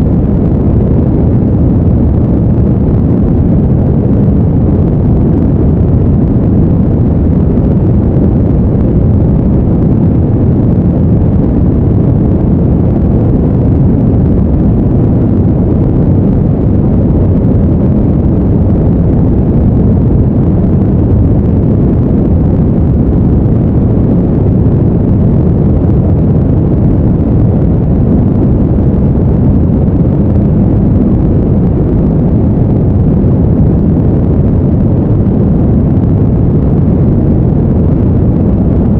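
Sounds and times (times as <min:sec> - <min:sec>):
deep brown noise: 0:00.0 - 0:38.9.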